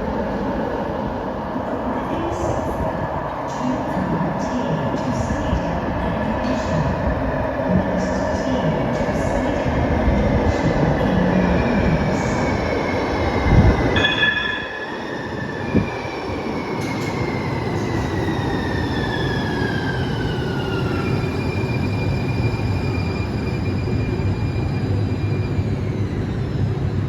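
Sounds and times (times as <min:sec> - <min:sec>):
light rail train rumble: 0:00.0 - 0:27.0.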